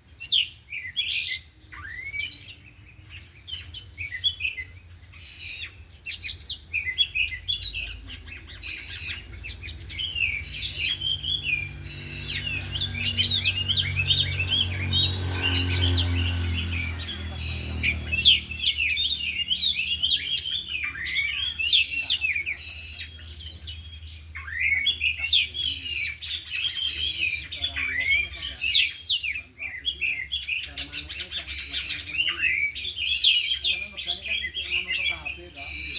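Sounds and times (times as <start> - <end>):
birds singing: 0.0 - 35.9.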